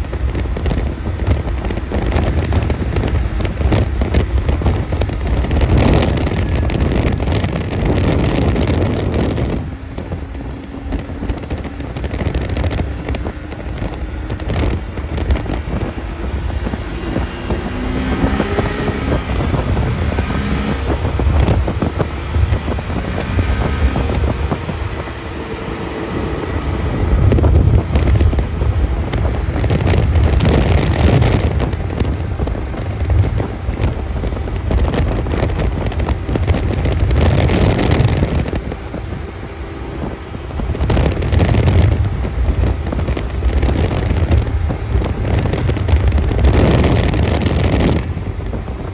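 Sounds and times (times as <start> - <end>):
snowmobile engine: 0.0 - 48.9
wind buffeting microphone: 0.0 - 48.9.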